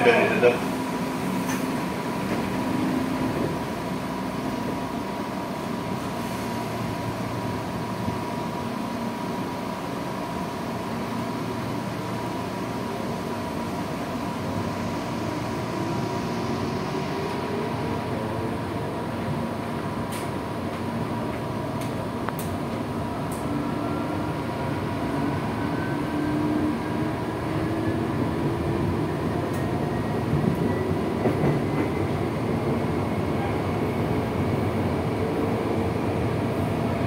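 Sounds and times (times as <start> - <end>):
train air conditioning: 0.0 - 37.0.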